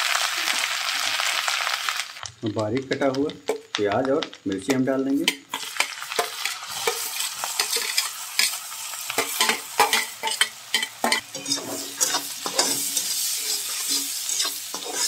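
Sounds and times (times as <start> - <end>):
onions sizzling in hot oil: 0.0 - 15.0
spatula scraping and clicking on pan: 2.8 - 15.0.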